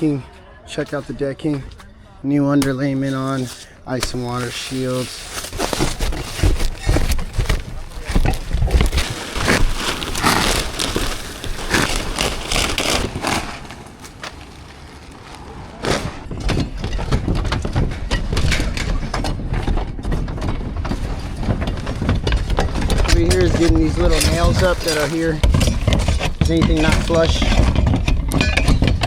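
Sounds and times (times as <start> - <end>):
shingles scraping and cracking: 3.2 - 29.0.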